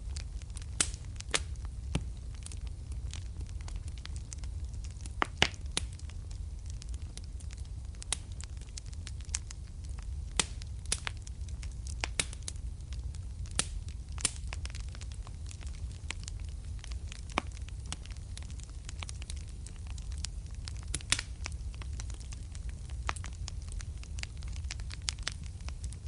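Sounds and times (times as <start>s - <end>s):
fire pops and snaps: 0.0s - 26.0s
low rumble of burning: 0.0s - 26.0s
wood fire crackling: 0.0s - 26.0s.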